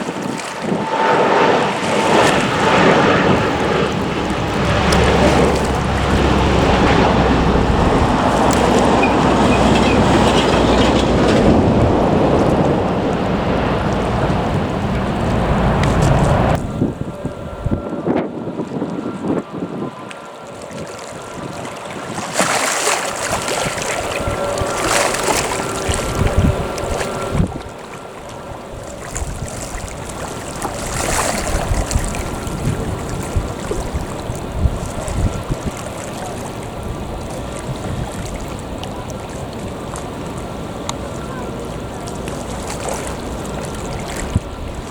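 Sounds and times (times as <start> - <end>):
jet engines rumbling: 0.0 - 44.9
sea waves washing: 0.0 - 44.9
wind buffeting microphone: 0.0 - 44.9.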